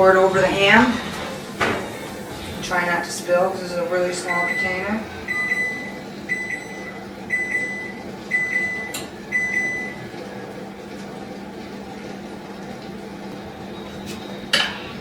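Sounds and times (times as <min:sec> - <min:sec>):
appliance beeping: 0:00.0 - 0:11.2, 0:12.6 - 0:15.0
steady low hum: 0:00.0 - 0:15.0.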